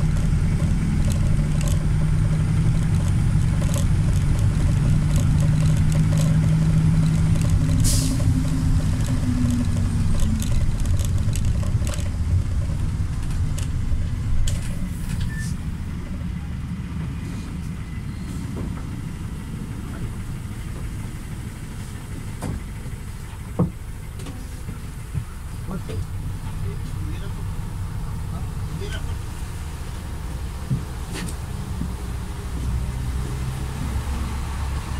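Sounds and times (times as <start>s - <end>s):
bus engine drone: 0.0s - 34.9s
interior clicks and rattles: 0.0s - 34.9s.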